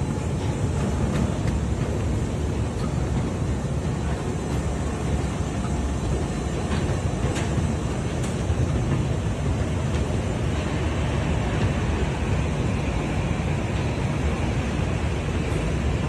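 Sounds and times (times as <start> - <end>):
conveyor mechanical rumble: 0.0 - 16.0.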